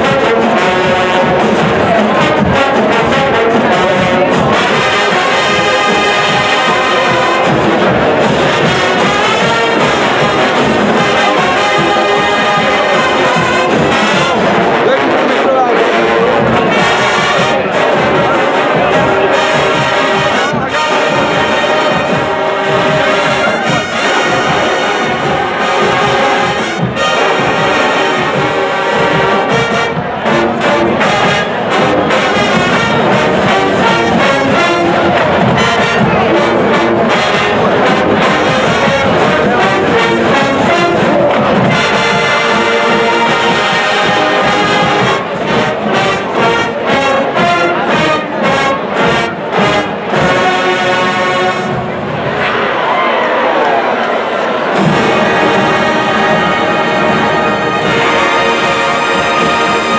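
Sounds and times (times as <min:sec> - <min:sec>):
marching band playing brass tune: 0:00.0 - 0:59.9.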